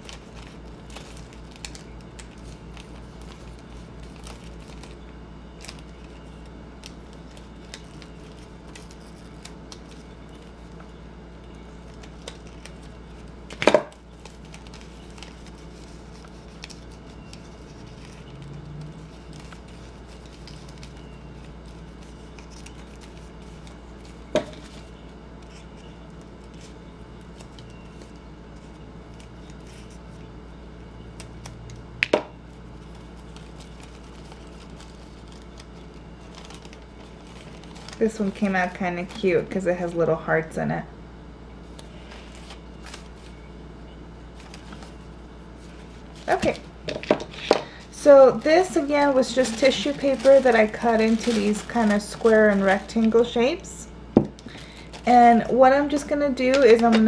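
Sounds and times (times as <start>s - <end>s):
low hum: 0.0s - 56.8s.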